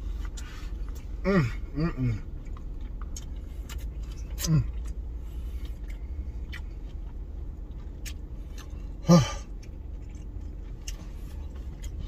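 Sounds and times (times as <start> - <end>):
steady low hum: 0.0 - 12.0
chewing: 2.2 - 12.0.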